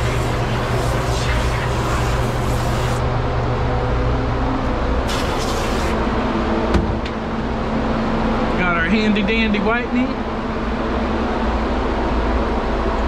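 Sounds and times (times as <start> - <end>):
grooming dryer motor hum: 0.0 - 13.0.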